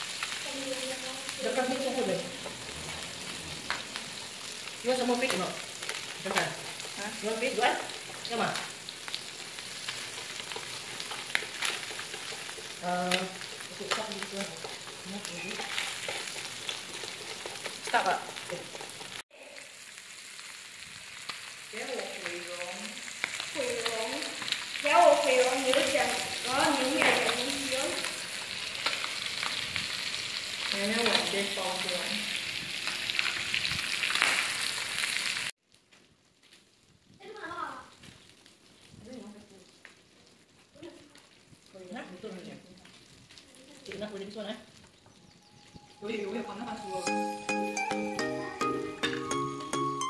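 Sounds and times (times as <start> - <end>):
meat and fish sizzling on grill: 0.0 - 50.0.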